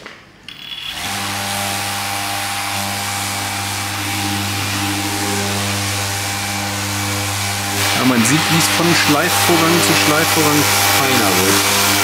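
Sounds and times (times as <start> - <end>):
orbital sander running: 0.8 - 12.0.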